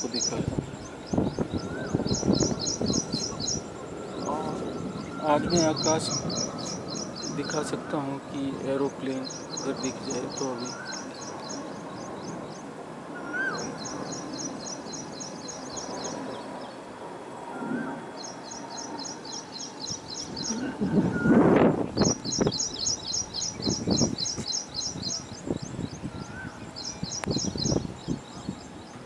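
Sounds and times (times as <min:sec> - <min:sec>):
rising whistled bird notes: 0:00.0 - 0:08.0, 0:09.1 - 0:12.6, 0:13.2 - 0:16.8, 0:17.5 - 0:29.0
harsh bird calls: 0:00.0 - 0:16.9, 0:17.5 - 0:29.0
birds chirping: 0:00.0 - 0:29.0.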